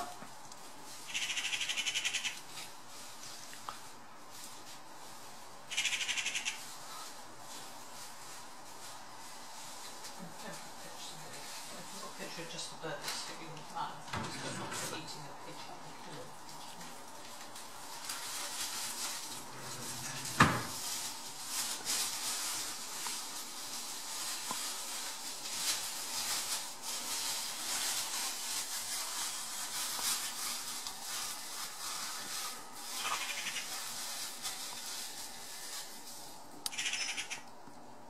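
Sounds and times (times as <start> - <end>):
rustling hiss with crackles: 0.0 - 14.1, 14.7 - 38.0.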